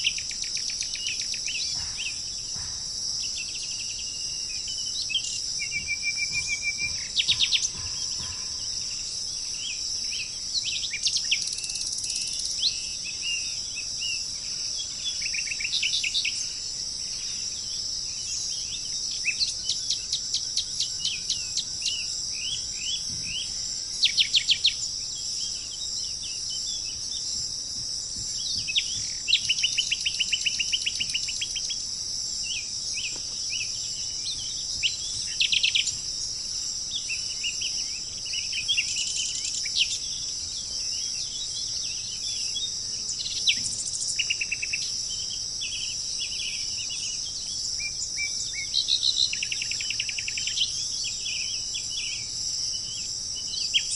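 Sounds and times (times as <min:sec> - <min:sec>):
birds chirping: 0:00.0 - 0:53.9
steady high-pitched hiss: 0:00.0 - 0:53.9.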